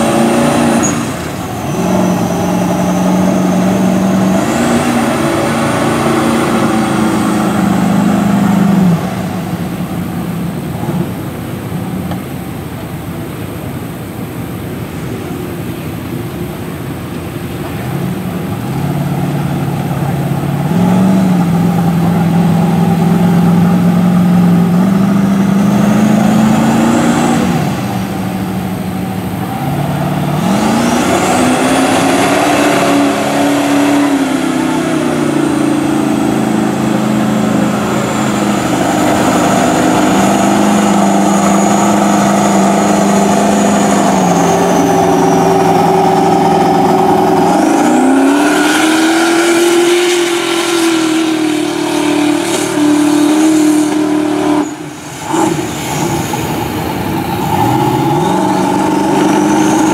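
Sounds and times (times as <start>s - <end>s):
thin high whine: 0.0s - 59.9s
truck engine revving: 0.0s - 59.9s.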